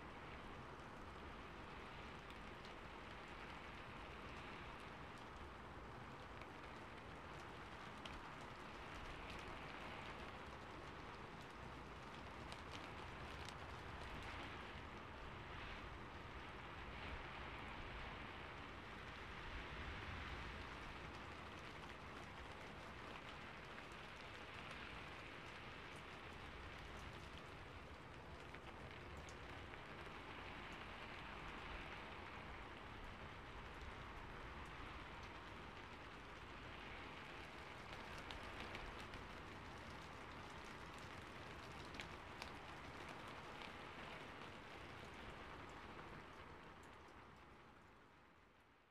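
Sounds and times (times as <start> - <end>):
faint rain-like hiss: 0.0 - 48.9
light ticks: 1.7 - 14.9, 20.3 - 47.6.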